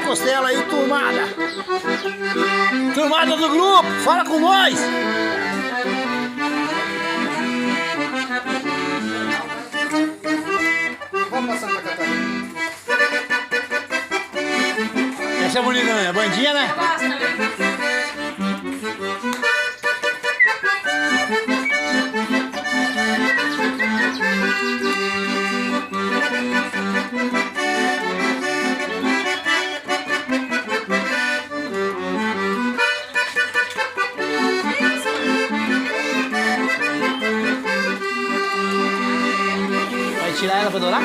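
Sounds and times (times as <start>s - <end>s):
accordion playing a tune: 0.0s - 41.0s.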